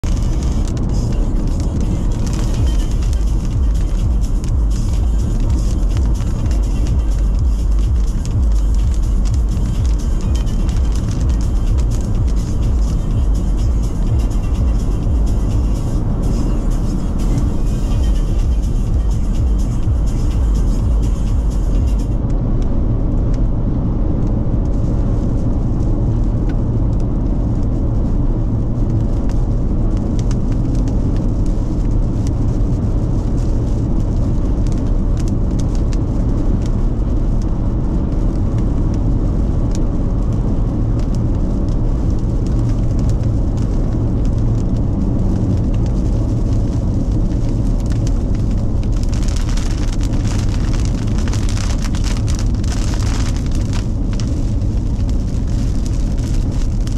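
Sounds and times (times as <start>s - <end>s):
raindrops ticking on windshield: 0.0s - 22.4s, 24.7s - 56.9s
hiss of rain: 0.0s - 22.6s, 24.5s - 56.9s
car cabin rumble: 0.0s - 56.9s.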